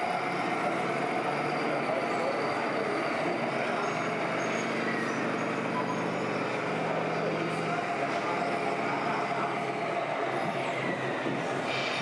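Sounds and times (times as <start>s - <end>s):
toy truck diesel engine sound: 0.0s - 9.9s
murmur of voices: 0.0s - 12.0s.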